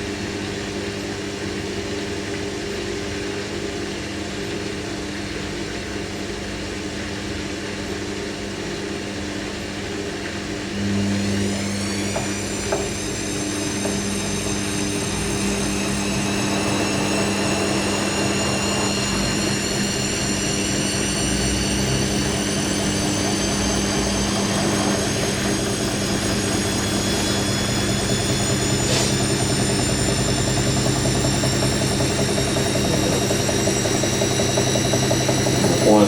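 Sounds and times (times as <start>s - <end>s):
washing machine motor whine: 0.0s - 36.0s.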